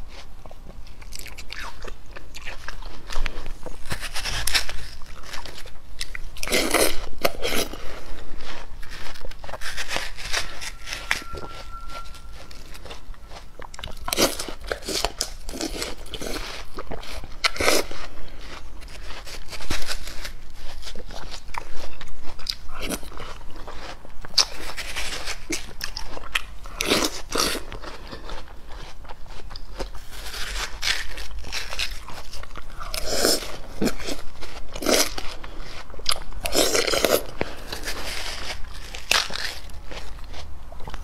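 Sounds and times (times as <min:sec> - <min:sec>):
crunching bites and chewing: 0:00.0 - 0:41.0.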